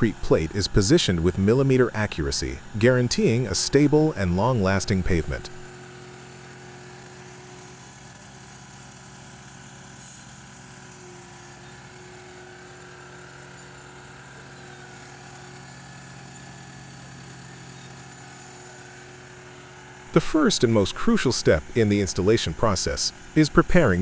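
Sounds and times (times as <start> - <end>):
heavy machine engine humming: 0.0 - 24.0.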